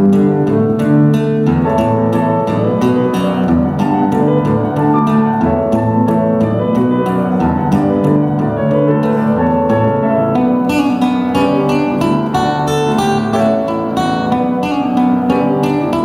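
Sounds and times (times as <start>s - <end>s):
live instrumental music: 0.0s - 16.0s.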